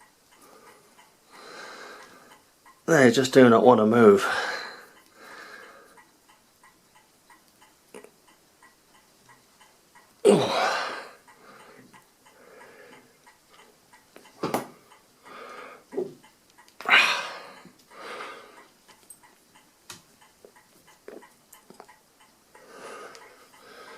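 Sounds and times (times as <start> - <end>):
faint steady ticking: 0.0 - 23.9.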